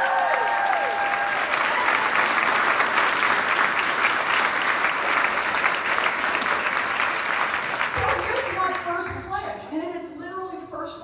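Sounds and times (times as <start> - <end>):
people cheering: 0.0 - 8.9
crowd applauding: 0.0 - 9.0.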